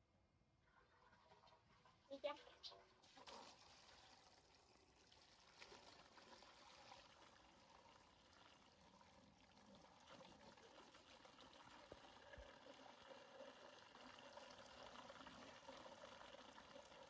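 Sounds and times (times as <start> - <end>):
water from hose splashing into tub: 1.0 - 17.0.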